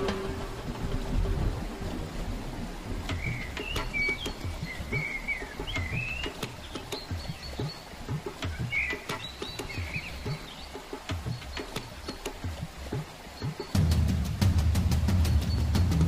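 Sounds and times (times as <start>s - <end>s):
small birds chirping: 3.0s - 16.0s.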